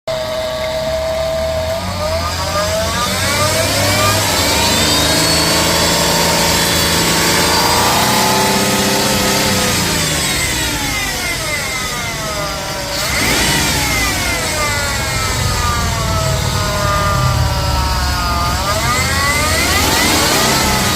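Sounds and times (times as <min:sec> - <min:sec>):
car engine revving: 0:00.1 - 0:20.9
pitched noise from engine bay: 0:02.3 - 0:20.9.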